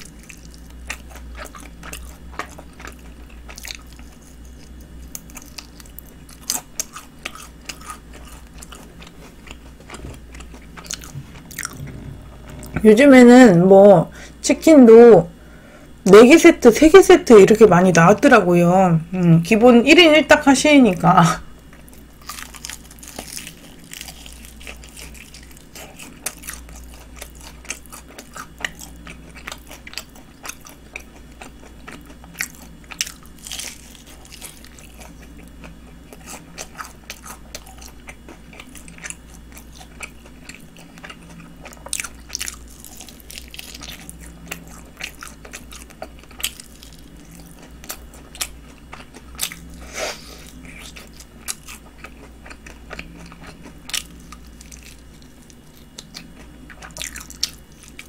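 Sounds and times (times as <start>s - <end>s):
fried chicken crunching: 0.0s - 12.0s, 21.8s - 58.0s
wet chewing: 0.0s - 12.8s, 21.7s - 58.0s.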